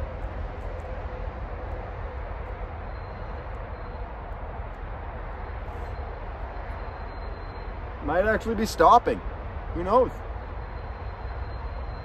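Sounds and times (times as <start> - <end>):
train rumbling slowly past: 0.0 - 12.0.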